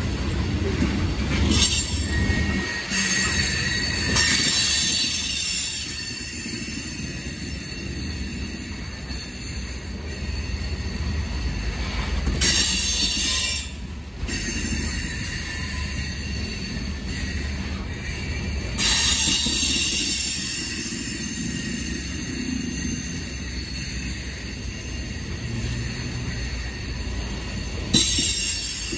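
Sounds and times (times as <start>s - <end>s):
train wheels rumbling on rail: 0.0s - 28.9s
high wheel squeal: 1.3s - 28.9s.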